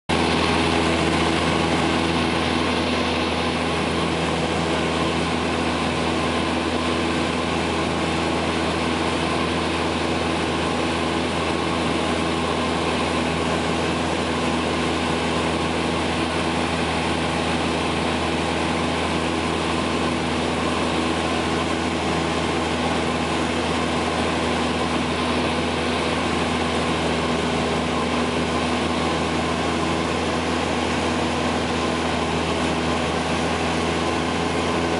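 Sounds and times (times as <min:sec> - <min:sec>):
low engine hum: 0:00.1 - 0:34.9.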